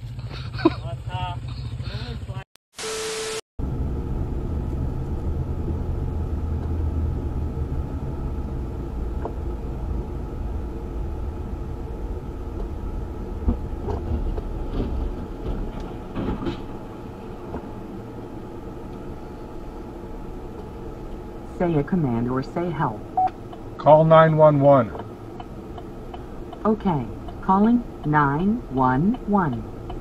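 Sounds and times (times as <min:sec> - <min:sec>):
car road and engine rumble: 0:00.0 - 0:02.5, 0:03.6 - 0:30.0.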